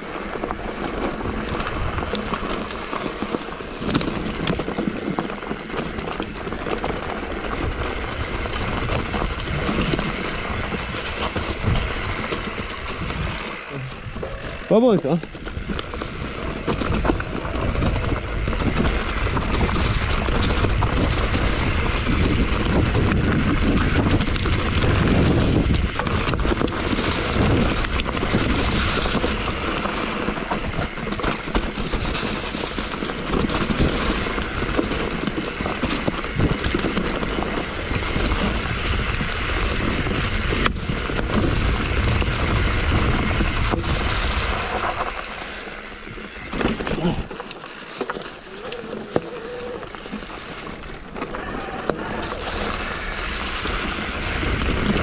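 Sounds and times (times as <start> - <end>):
bike tyres rattling and knocking: 0.0 - 55.0
wind rushing over microphone: 0.0 - 55.0.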